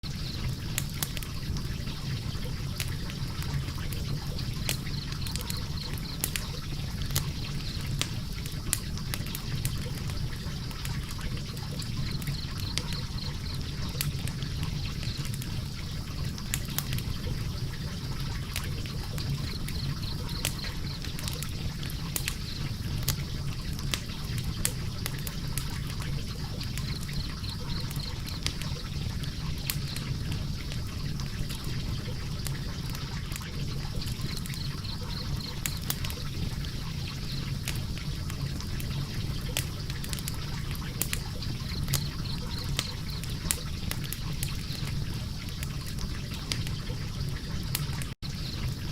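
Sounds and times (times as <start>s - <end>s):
log fire crackling and popping: 0.0s - 48.9s.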